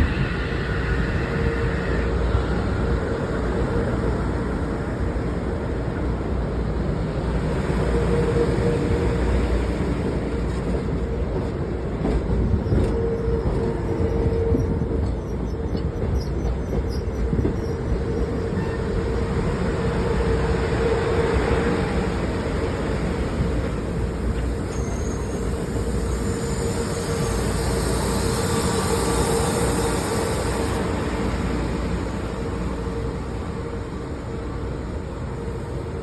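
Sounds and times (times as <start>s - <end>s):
electric train rumbling and humming: 0.0s - 36.0s.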